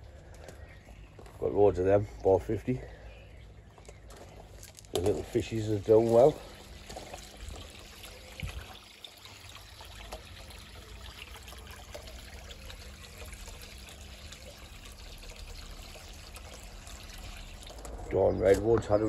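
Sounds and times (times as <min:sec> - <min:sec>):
water pouring into pond: 0:03.6 - 0:19.0.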